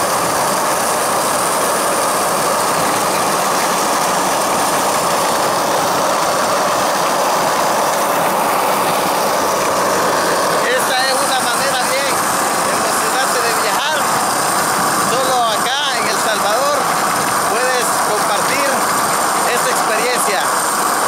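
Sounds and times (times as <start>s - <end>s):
steel cart wheels rolling on asphalt: 0.0s - 21.0s.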